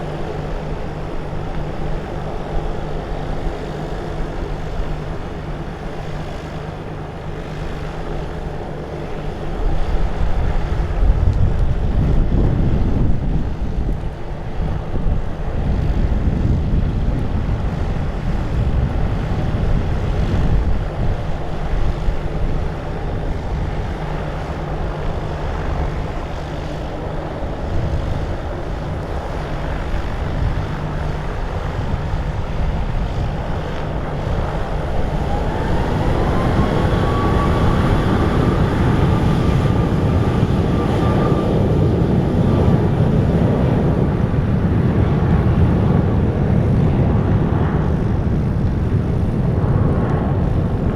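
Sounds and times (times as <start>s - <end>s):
airplane engines whining: 0.0s - 50.9s
wind buffeting microphone: 0.0s - 50.9s.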